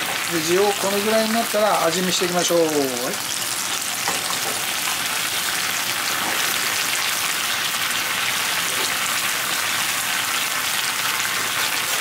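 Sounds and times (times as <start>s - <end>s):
sauce boiling and sizzling in pan: 0.0s - 12.0s.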